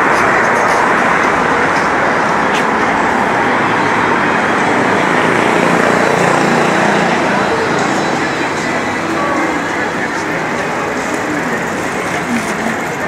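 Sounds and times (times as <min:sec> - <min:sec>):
road traffic rush: 0:00.0 - 0:13.0.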